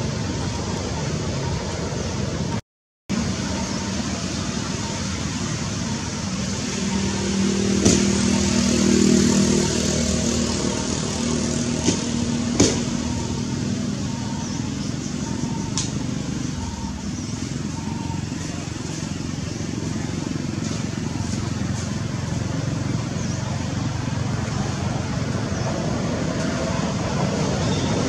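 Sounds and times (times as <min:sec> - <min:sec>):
outdoor background noise: 0:00.0 - 0:28.0
vehicle engine: 0:00.0 - 0:28.0.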